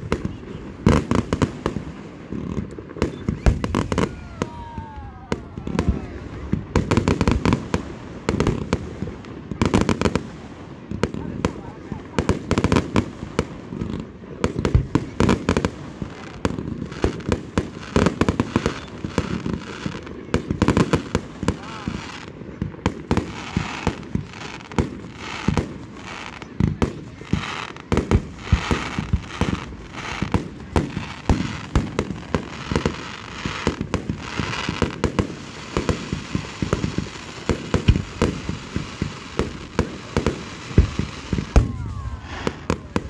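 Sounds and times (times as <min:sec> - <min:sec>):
fireworks bangs: 0:00.0 - 0:43.0
fireworks crackling: 0:00.0 - 0:43.0.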